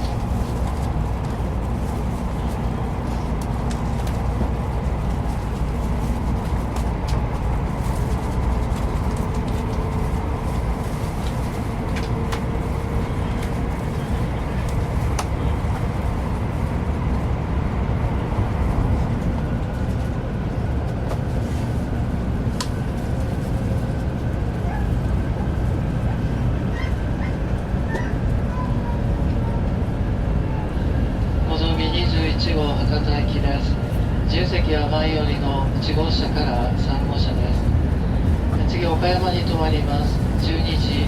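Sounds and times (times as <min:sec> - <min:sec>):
train running noise from inside: 0:00.0 - 0:41.0.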